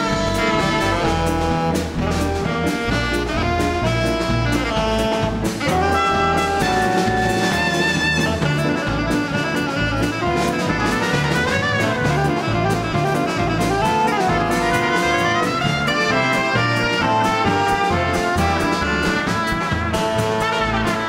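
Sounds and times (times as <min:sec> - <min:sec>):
drum kit: 0:00.0 - 0:21.0
live latin dance band: 0:00.0 - 0:21.0
pulsing bass line: 0:00.0 - 0:21.0
saxophones and brass: 0:00.0 - 0:21.0.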